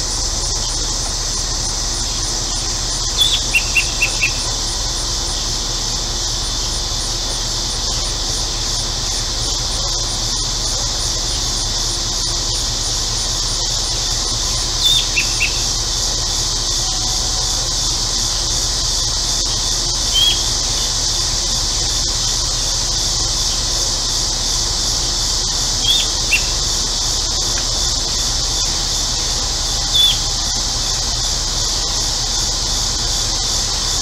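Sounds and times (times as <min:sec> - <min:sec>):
air conditioner humming: 0:00.0 - 0:34.0
cicada chorus droning: 0:00.0 - 0:34.0.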